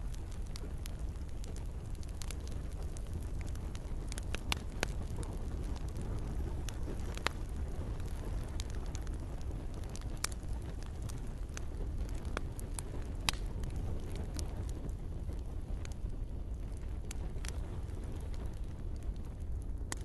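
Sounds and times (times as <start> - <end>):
wood campfire crackling: 0.0 - 20.0.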